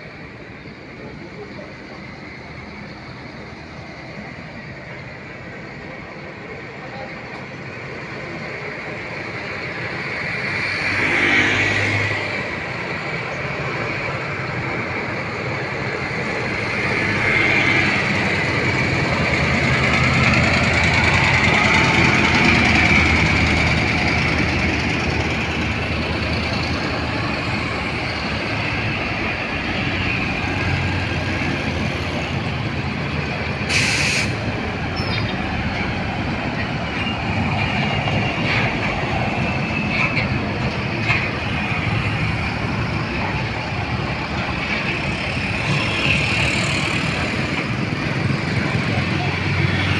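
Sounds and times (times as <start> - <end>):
vehicle engines and tyre noise: 0.0 - 49.9.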